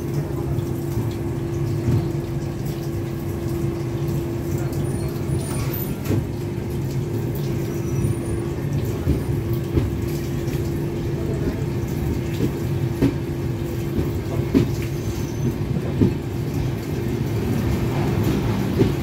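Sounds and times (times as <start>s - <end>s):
train rumbling inside coach: 0.0s - 19.0s.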